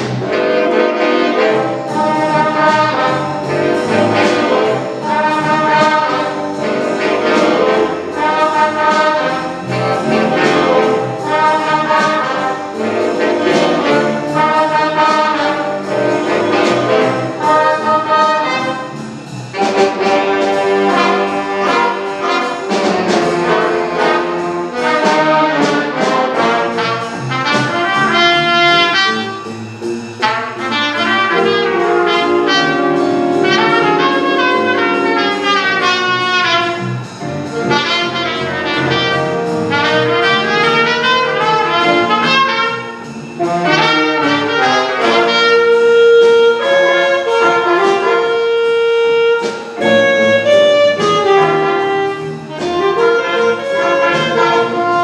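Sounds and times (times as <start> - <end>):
jazz big band playing: 0.0 - 55.0.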